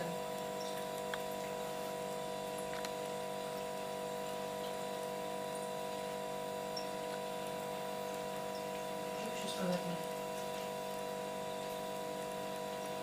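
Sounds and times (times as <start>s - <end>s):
refrigerator humming: 0.0s - 13.0s.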